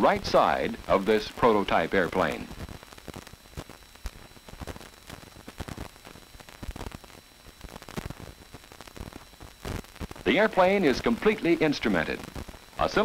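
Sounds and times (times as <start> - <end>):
crackles and clicks: 0.0 - 13.0
faint film soundtrack hiss: 0.0 - 13.0.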